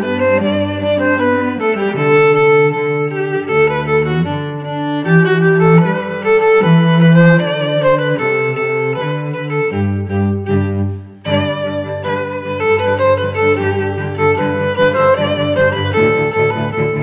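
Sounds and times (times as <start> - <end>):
bowed string music: 0.0 - 17.0.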